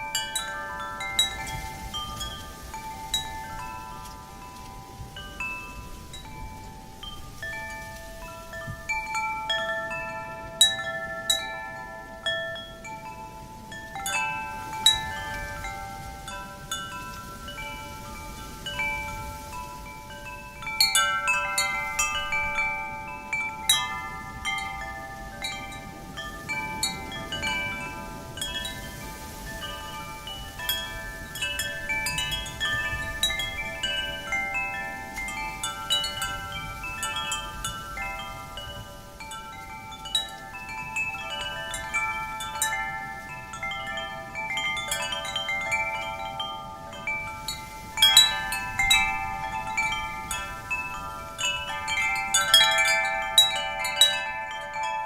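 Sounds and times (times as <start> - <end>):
faint wind hiss: 0.0 - 55.0
wind chimes ringing: 0.0 - 55.0.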